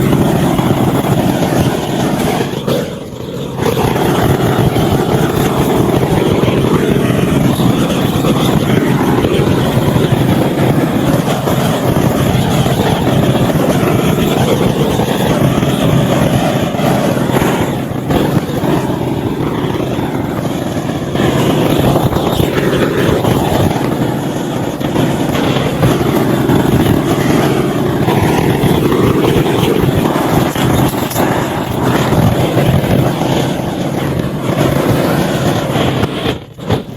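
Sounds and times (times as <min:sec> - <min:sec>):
chainsaw carving into wood: 0:00.0 - 0:36.9.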